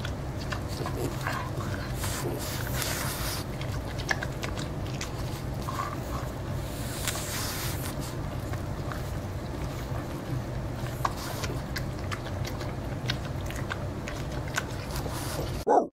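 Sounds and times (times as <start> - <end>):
dog chewing corn: 0.0 - 15.6.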